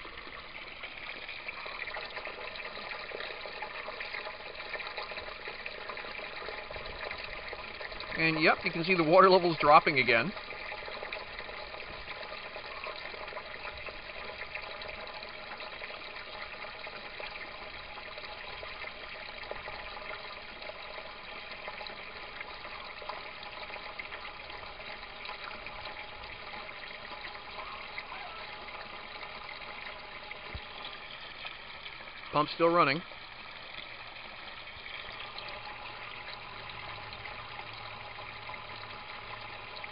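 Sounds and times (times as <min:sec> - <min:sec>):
water running: 0:00.0 - 0:39.9.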